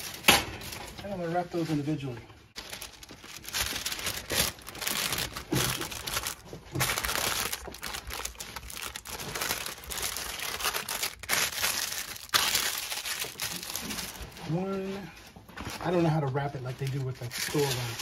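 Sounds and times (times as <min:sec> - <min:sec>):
wax paper crinkling: 0:00.0 - 0:18.0.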